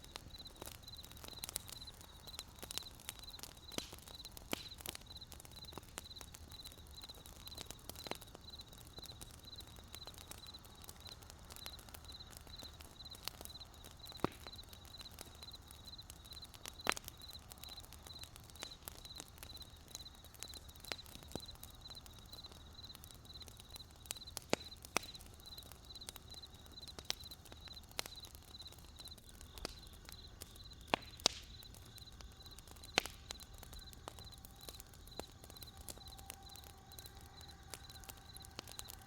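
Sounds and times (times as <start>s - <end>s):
campfire crackling and popping: 0.0s - 39.0s
crickets chirping: 0.0s - 39.0s.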